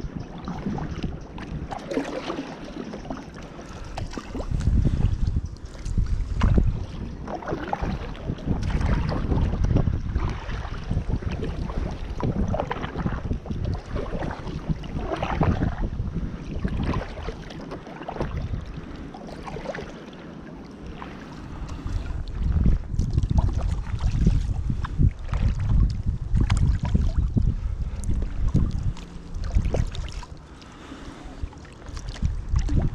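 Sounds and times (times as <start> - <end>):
wind buffeting microphone: 0.0 - 20.1, 20.7 - 32.9
paddle splashing and dripping: 0.0 - 32.9.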